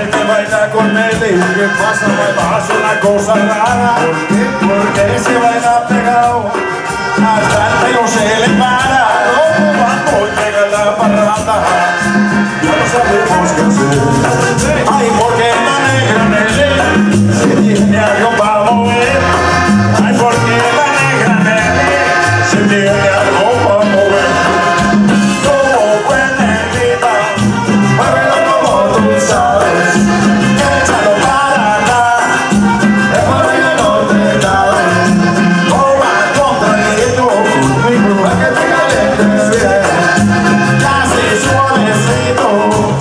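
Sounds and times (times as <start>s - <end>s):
button accordions: 0.0s - 43.0s
live band playing: 0.0s - 43.0s.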